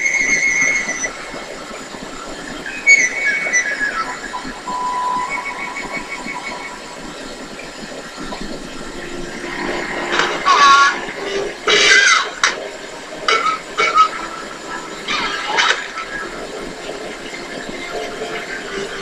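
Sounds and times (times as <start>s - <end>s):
steady hiss: 0.0s - 19.0s
wavering electronic tones: 2.5s - 19.0s.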